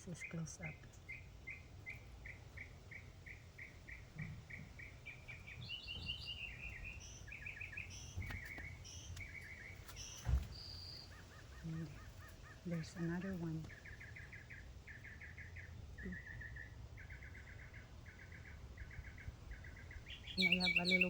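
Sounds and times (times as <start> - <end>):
garden birds chirping: 0.0 - 21.0.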